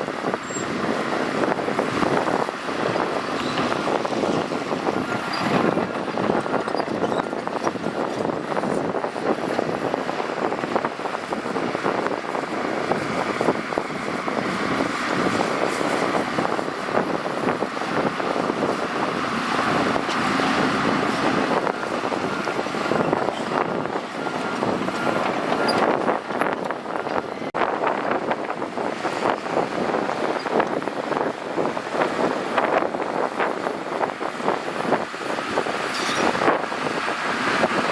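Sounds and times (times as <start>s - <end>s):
bulldozer engine clattering: 0.0s - 37.9s.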